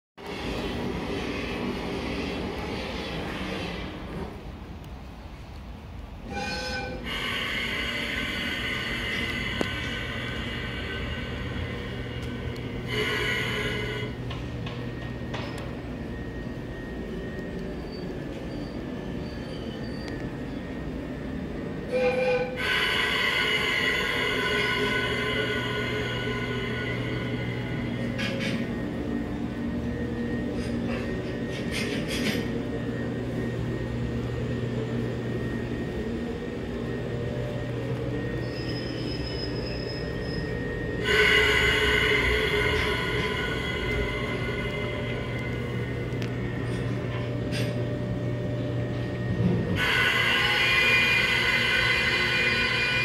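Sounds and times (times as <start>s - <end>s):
electric locomotive hum and whine: 0.2s - 53.0s
eerie music: 6.4s - 53.0s.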